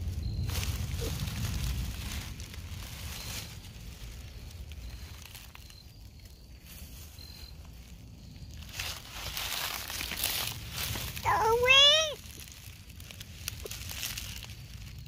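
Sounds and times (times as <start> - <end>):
footsteps rustling through leaves: 0.0 - 15.0
wind rumble on microphone: 0.0 - 15.0.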